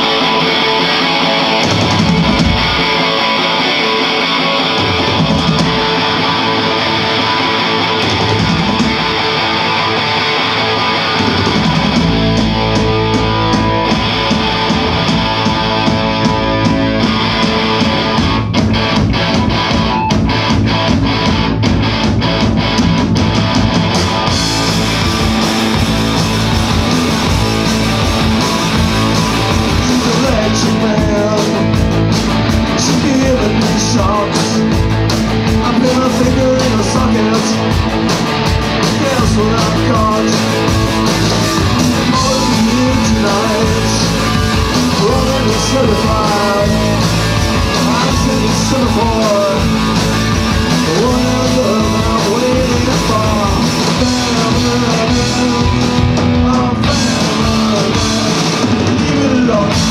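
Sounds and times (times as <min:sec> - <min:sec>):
distorted electric guitars: 0:00.0 - 0:59.9
rock band playing: 0:00.0 - 0:59.9.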